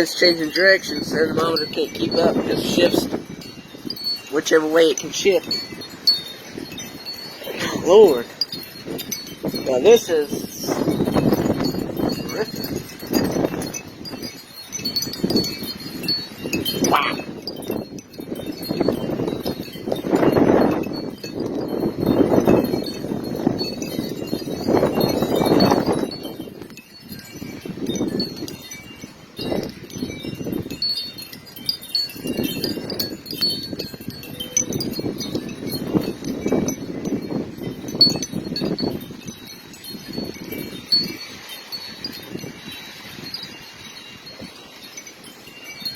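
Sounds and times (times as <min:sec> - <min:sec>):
gusty wind: 0:00.0 - 0:45.9
wind chimes ringing: 0:00.0 - 0:45.9.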